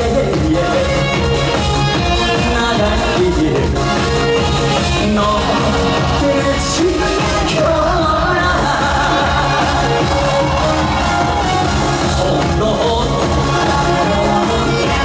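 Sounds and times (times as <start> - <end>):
band playing with steady beat: 0.0 - 15.0
person singing: 0.0 - 15.0.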